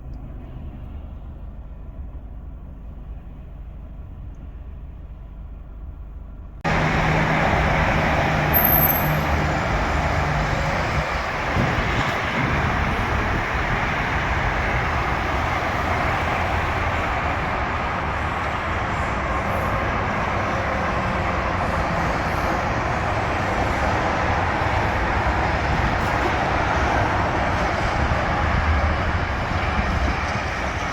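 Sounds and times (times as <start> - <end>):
low engine hum: 0.0 - 30.9
vehicles passing: 0.0 - 30.9.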